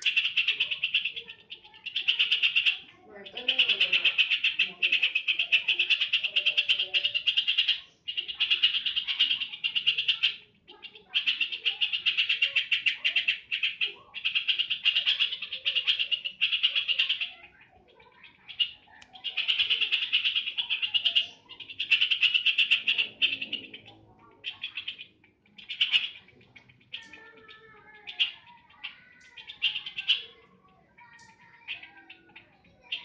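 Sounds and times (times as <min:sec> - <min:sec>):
bird chattering trills: 0:00.0 - 0:33.0.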